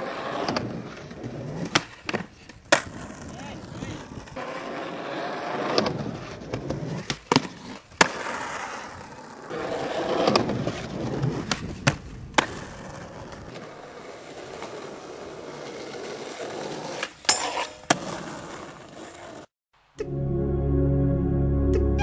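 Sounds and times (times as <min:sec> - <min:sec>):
skateboard clacks: 0:00.0 - 0:19.5
skateboard wheels rolling on pavement: 0:00.0 - 0:19.5.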